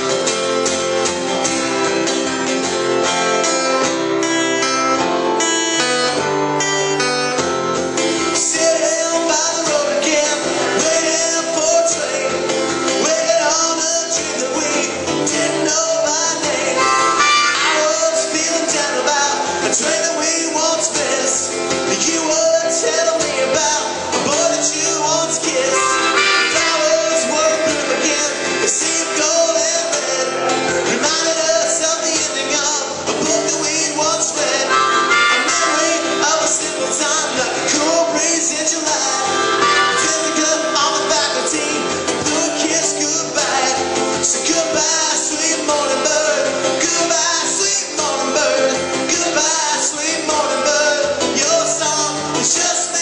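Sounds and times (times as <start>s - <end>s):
band playing with guitar: 0.0s - 53.0s
person singing: 8.0s - 53.0s.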